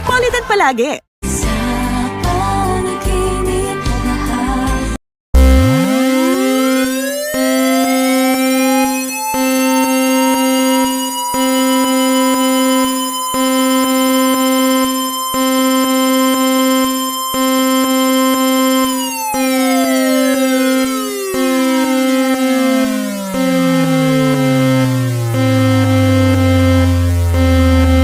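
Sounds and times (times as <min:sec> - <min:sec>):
low pulsing tone: 0:05.4 - 0:28.0
siren-like tone: 0:05.4 - 0:28.0
steady higher tone: 0:05.4 - 0:28.0.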